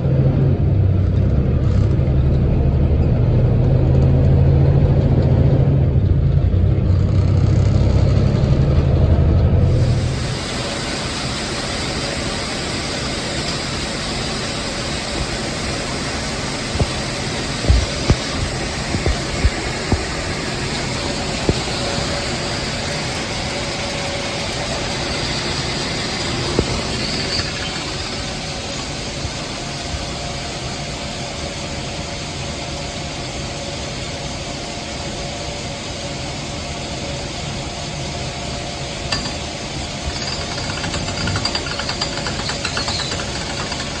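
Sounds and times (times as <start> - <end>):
combine harvester drone: 0.0 - 44.0
faint steady whine: 7.7 - 43.9.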